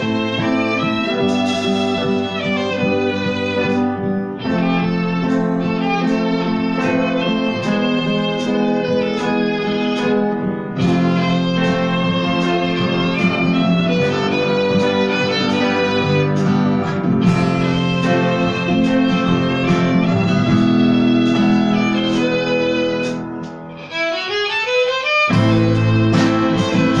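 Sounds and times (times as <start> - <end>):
accompaniment with regular beat: 0.0 - 27.0
violin melody: 0.0 - 27.0.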